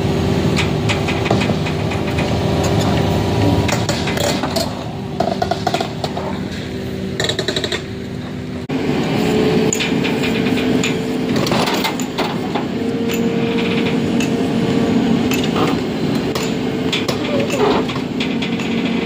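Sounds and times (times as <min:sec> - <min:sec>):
excavator diesel engine humming: 0:00.0 - 0:19.0.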